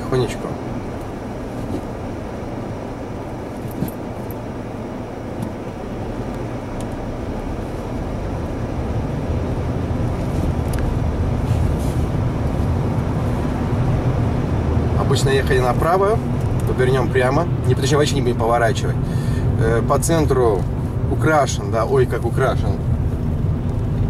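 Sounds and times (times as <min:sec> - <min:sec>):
car engine: 0:00.0 - 0:24.0
road noise inside car: 0:00.0 - 0:24.0.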